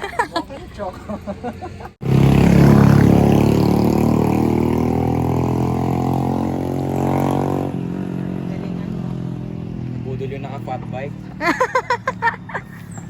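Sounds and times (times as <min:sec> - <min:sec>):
motor vehicle engine running: 0:00.8 - 0:13.0.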